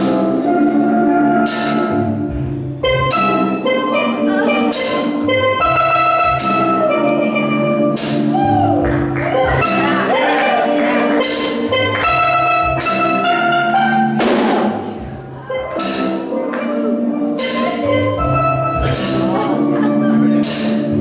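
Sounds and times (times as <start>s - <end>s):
drum kit: 0.0s - 21.0s
steel pans playing melody: 0.0s - 21.0s.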